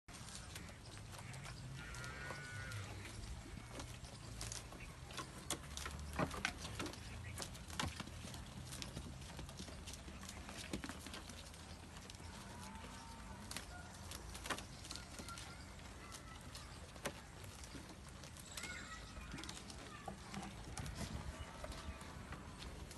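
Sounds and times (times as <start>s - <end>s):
goats chewing stalks: 0.1s - 22.9s.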